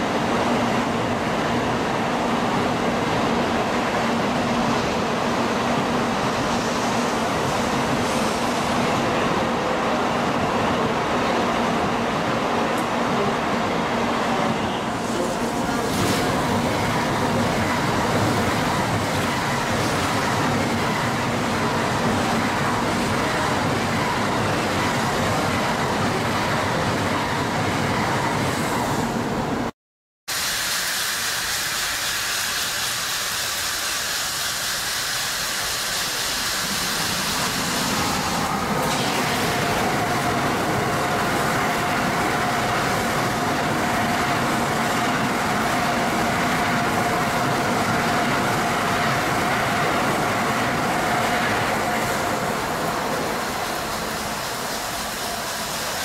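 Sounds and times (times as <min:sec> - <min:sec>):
train passing: 0:00.0 - 0:29.7, 0:30.3 - 0:56.0.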